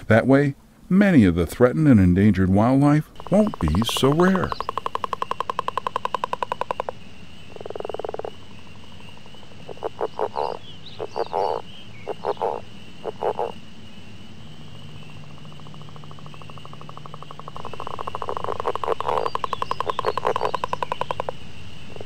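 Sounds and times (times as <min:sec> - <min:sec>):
frogs calling: 0:00.0 - 0:22.0.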